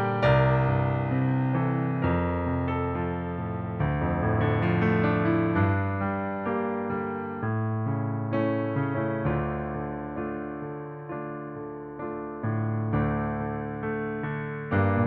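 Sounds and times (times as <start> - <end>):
piano playing slow hymn chords: 0.0 - 15.0.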